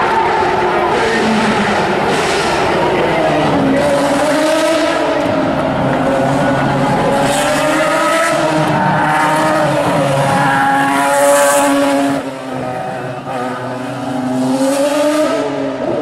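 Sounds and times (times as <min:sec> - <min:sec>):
racing car engine revving: 0:00.0 - 0:16.0.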